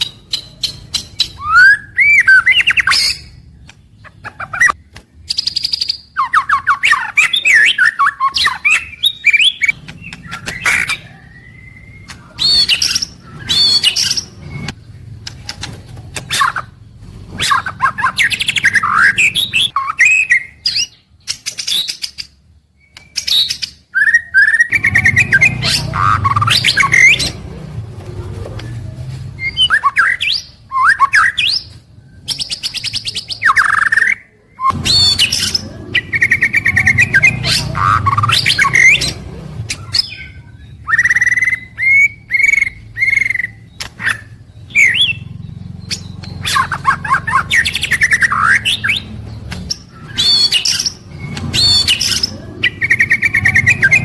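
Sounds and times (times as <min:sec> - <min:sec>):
songbird whistling and trilling: 0:00.0 - 0:16.7, 0:17.3 - 0:27.4, 0:29.4 - 0:54.0.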